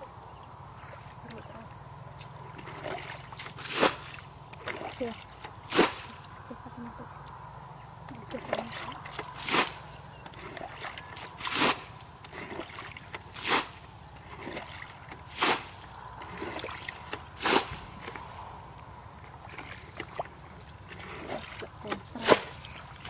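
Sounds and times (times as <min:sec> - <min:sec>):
water sloshing: 0:00.7 - 0:23.0
water splashes: 0:00.8 - 0:06.9, 0:08.1 - 0:18.4, 0:19.2 - 0:23.0.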